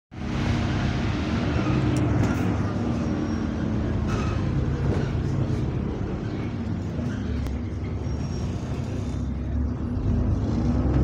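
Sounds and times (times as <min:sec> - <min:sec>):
bus engine drone: 0:00.1 - 0:11.0.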